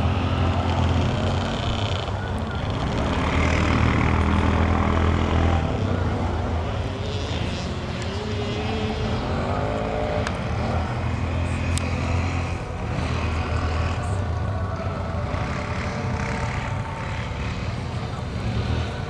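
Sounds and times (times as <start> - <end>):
distant quad engine revving: 0.0 - 19.0.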